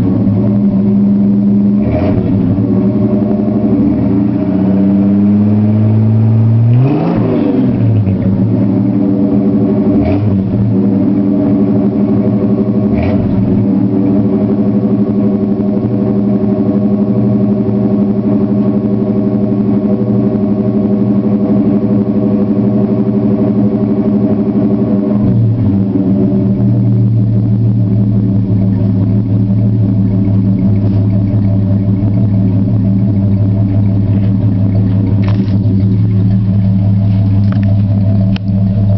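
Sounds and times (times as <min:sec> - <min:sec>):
car engine idling: 0:00.0 - 0:38.9
engine rev blips: 0:00.0 - 0:38.9.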